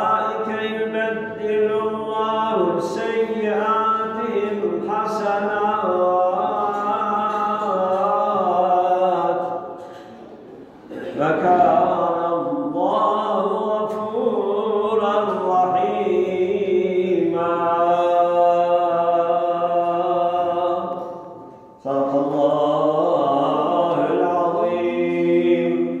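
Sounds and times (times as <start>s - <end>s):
man chanting melodically: 0.0s - 10.1s, 10.9s - 26.0s.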